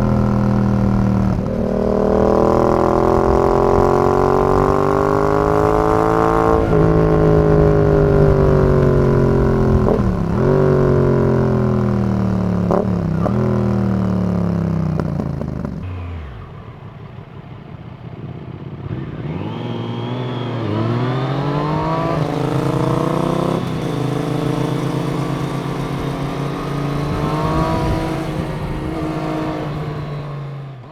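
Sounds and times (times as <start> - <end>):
gear change: 0.0 - 30.9
motorcycle engine revving: 0.0 - 30.9.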